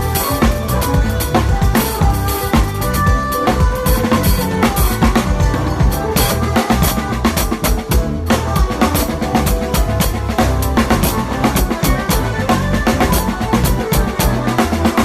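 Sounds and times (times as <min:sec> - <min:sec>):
acoustic drum kit groove: 0:00.0 - 0:15.0.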